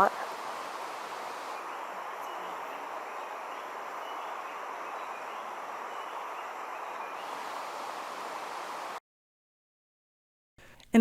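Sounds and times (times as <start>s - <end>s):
rushing outdoor background noise: 0.0s - 9.0s.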